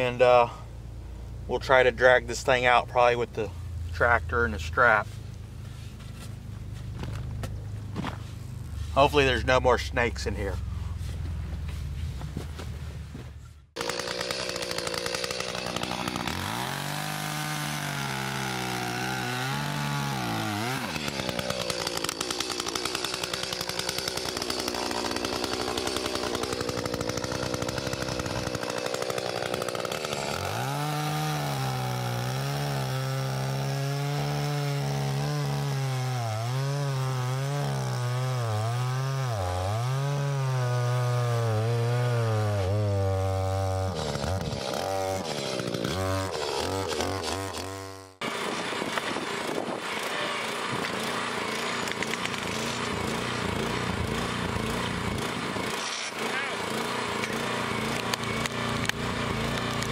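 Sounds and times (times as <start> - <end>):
chainsaw cutting roots: 1.3 - 11.9, 13.7 - 59.9.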